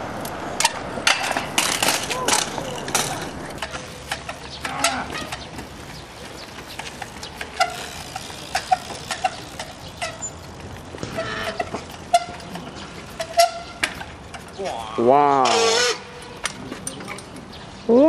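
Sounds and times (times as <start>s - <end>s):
bicycle tyres knocking on wooden planks: 0.2s - 14.8s.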